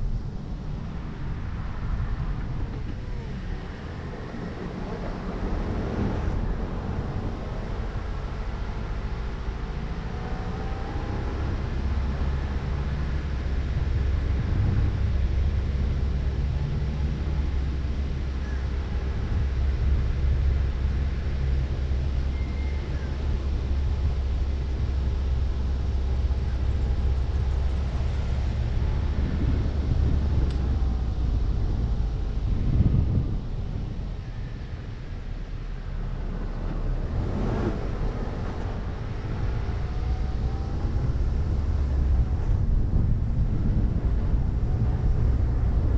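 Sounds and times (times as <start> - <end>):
car engine running: 0.0 - 45.9.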